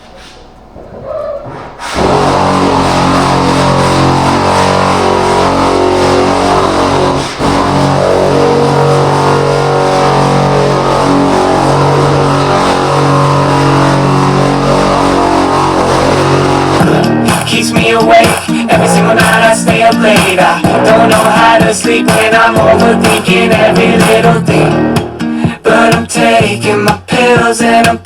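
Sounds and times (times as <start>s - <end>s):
guitar-led song: 2.0s - 28.0s.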